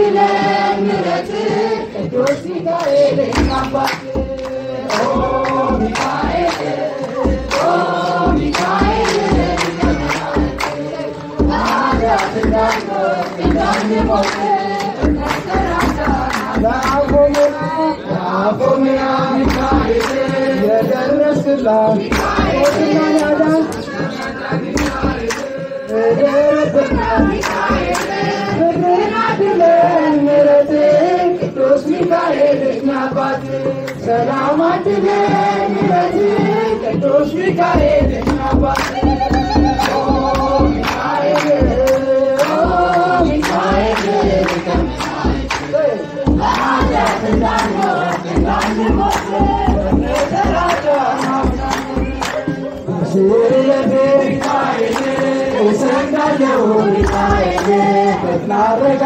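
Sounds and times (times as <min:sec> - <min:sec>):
drum beating: 0:00.0 - 0:59.0
group singing a hymn: 0:00.0 - 0:59.0
hand claps: 0:02.2 - 0:17.8, 0:18.6 - 0:21.1, 0:22.0 - 0:28.6, 0:32.8 - 0:34.2, 0:35.2 - 0:58.5.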